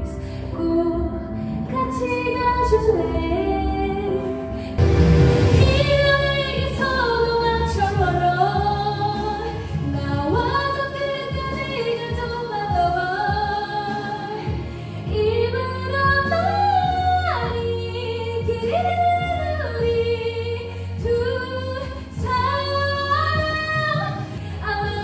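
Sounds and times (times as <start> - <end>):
woman singing slow melody: 0.0 - 4.6, 5.6 - 25.0
karaoke backing track with bass: 0.0 - 25.0.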